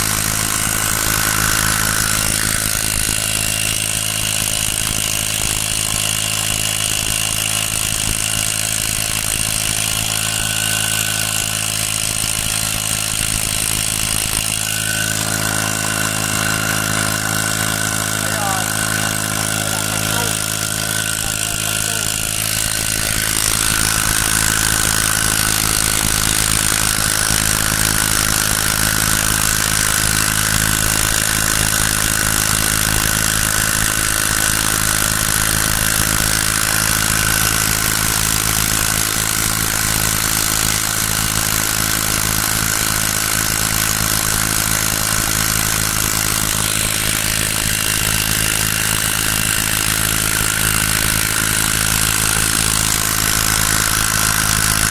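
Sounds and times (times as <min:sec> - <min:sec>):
small engine running: 0:00.0 - 0:54.9.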